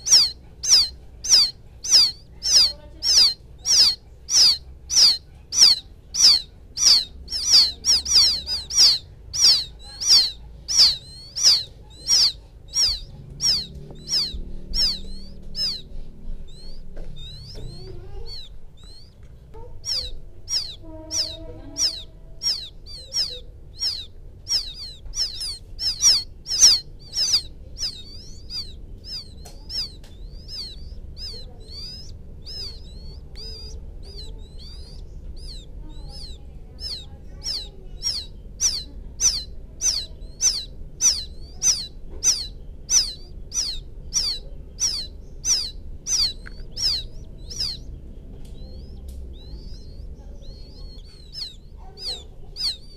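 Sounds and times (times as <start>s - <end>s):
quail chick peeping: 0.0s - 52.9s.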